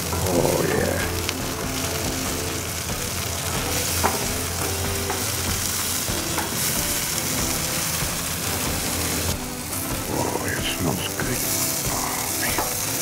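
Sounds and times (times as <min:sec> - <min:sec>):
hot dogs sizzling on a griddle: 0:00.0 - 0:13.0.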